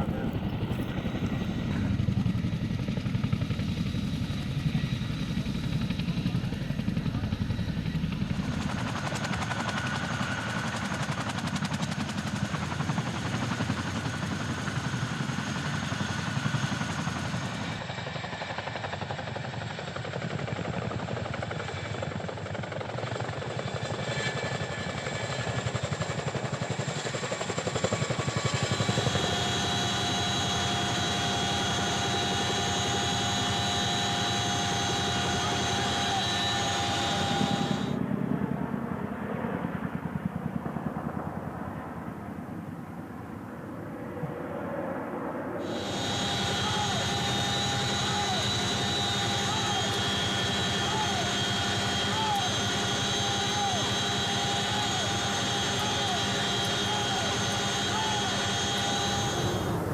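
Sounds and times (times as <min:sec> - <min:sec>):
helicopter rotors beating: 0:00.0 - 0:44.4, 0:45.6 - 0:59.9.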